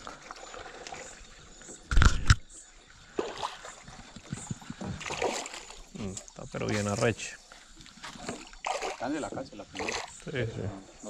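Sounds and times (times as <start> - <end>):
faint water sounds: 0.0 - 11.0.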